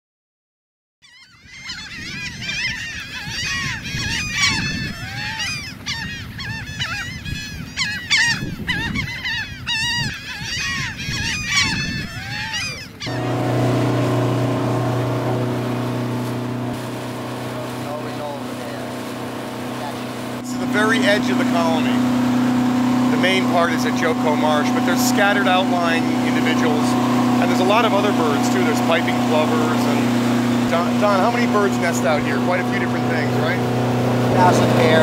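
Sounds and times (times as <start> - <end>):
gull colony calling: 1.0 - 35.0
boat motor running: 1.4 - 35.0.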